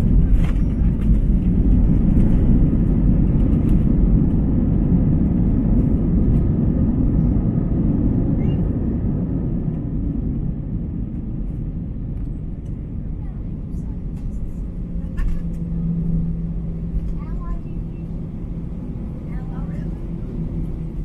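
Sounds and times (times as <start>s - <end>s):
jet engines and wheels rumbling: 0.0s - 21.0s.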